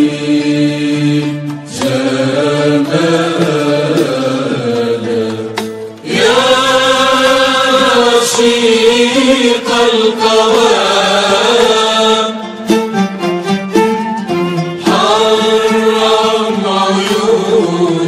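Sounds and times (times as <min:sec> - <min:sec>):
chant-like vocal music: 0:00.0 - 0:18.0.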